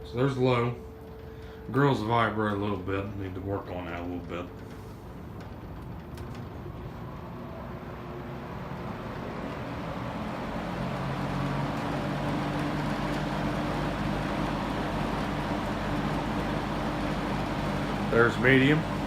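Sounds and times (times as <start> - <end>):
box fan running: 0.0 - 19.0
fan grilles vibrating: 0.0 - 19.0.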